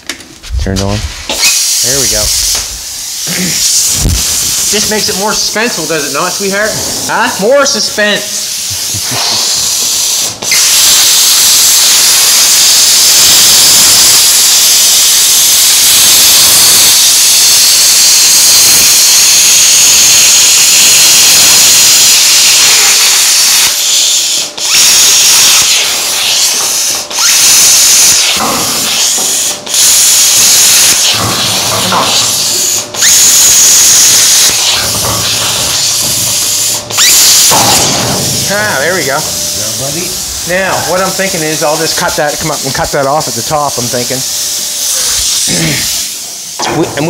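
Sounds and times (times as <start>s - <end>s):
plasma cutter hissing: 0.8s - 47.0s.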